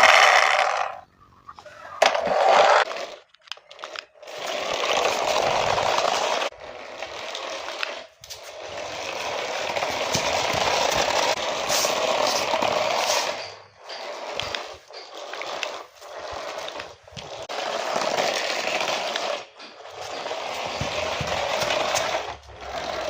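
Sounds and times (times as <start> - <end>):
toy car electric motor whirring: 0.0 - 1.0, 2.0 - 23.0.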